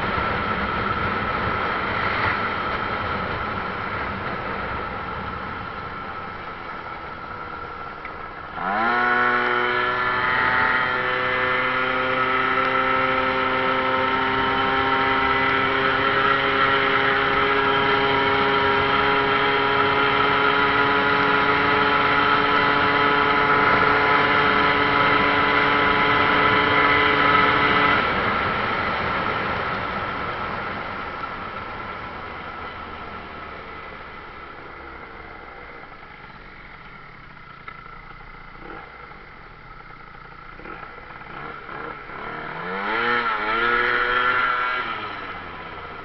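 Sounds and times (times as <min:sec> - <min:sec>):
scooter engine revving: 0:08.4 - 0:46.0.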